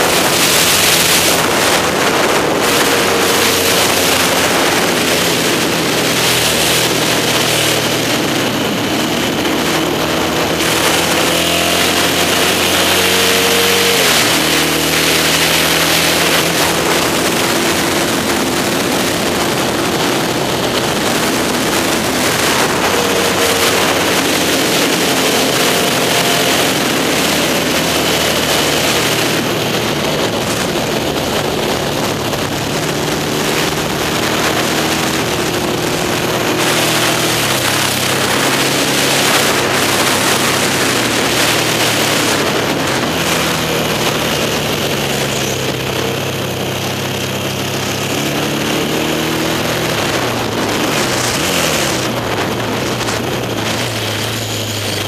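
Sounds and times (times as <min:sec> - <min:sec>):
motorcycle engine running hard: 0:00.0 - 0:55.0
wind rush on microphone: 0:00.0 - 0:55.0.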